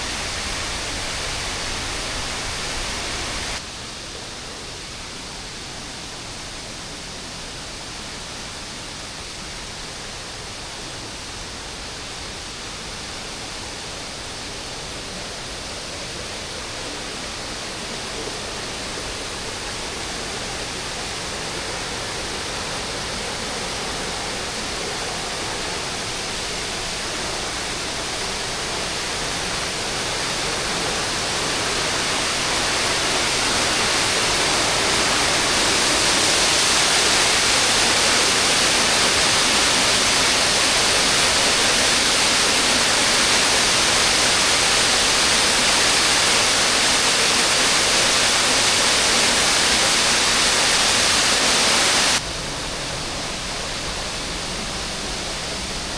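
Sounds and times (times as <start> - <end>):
waterfall rushing: 0.0 - 3.6, 12.4 - 55.9.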